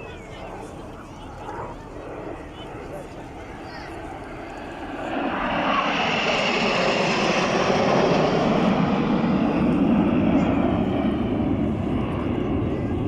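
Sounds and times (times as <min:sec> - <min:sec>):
aircraft engine flying past: 0:00.0 - 0:13.0.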